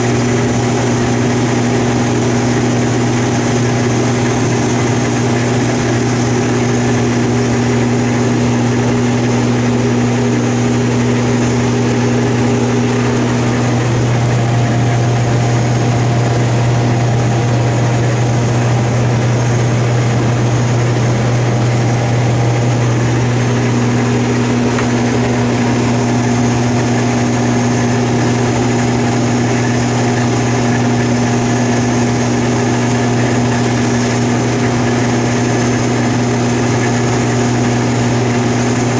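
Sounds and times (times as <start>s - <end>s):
deep engine drone: 0.0s - 38.9s.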